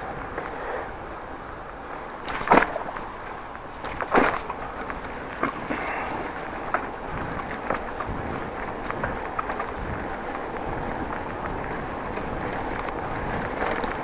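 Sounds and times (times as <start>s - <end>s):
wind and riding noise: 0.0s - 14.0s.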